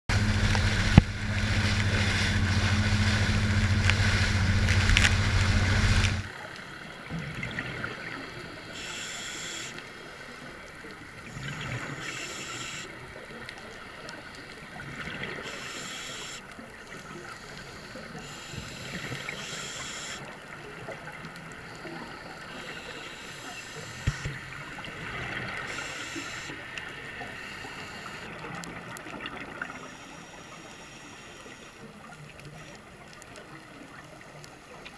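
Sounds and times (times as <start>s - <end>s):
boat engine hum: 0.1s - 34.8s
underwater wash: 0.1s - 34.9s
water splashing along hull: 0.1s - 34.9s.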